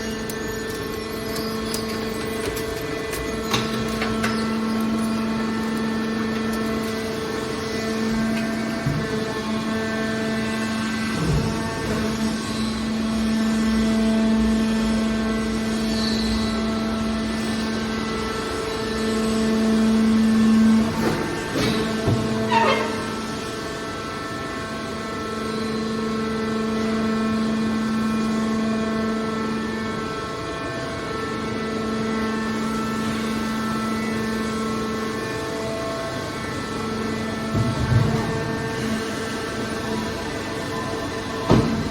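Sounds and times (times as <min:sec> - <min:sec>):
hydraulic power unit humming: 0:00.0 - 0:41.9.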